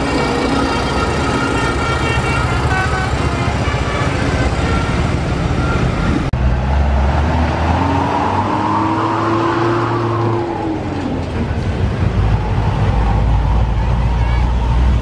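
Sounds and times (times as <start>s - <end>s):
diesel trucks passing: 0.0s - 15.0s
engine rising in pitch: 0.0s - 15.0s
road traffic: 0.0s - 15.0s.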